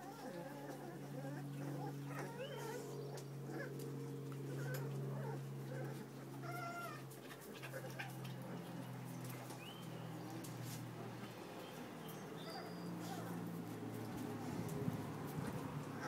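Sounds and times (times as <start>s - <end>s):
puppies whimpering and squeaking: 0.0s - 16.0s
steady low hum: 0.0s - 16.0s.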